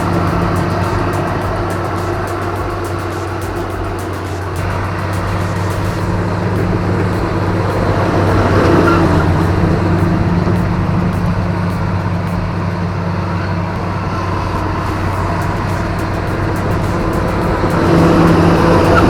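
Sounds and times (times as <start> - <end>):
heavy diesel machine engine running: 0.0 - 19.0.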